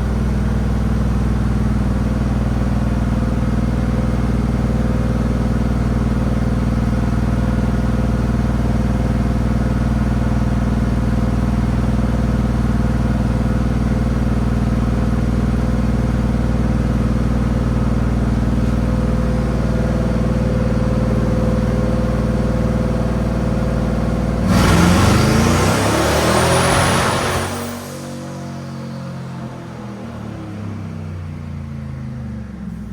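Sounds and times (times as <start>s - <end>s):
engine idling and revving: 0.0s - 32.9s.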